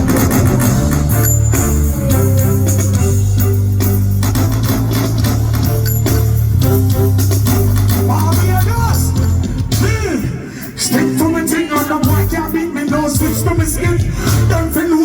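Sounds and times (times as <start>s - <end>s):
heavy bass line: 0.0s - 14.8s
reggae band playing: 0.0s - 15.0s.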